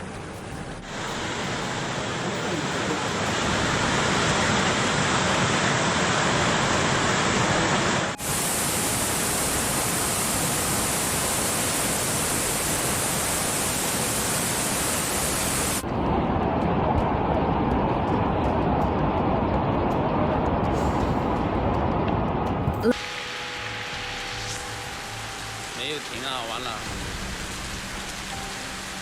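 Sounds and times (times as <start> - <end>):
floodwater roaring: 0.0 - 29.0.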